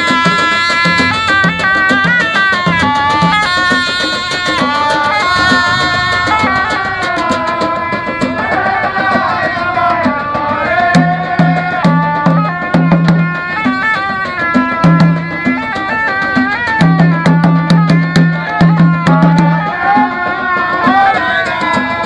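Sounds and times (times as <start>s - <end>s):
barrel drums and hand drums beating: 0.0s - 22.0s
reed pipe melody: 0.0s - 22.0s.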